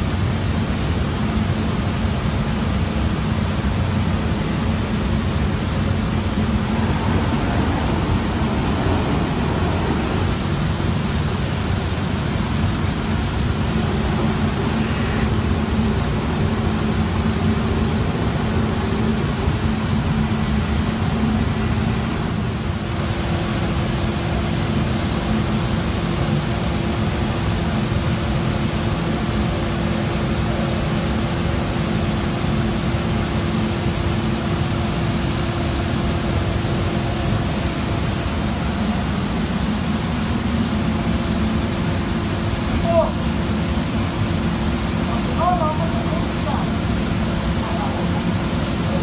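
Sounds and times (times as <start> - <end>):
cnc router machine noise: 0.0 - 49.0.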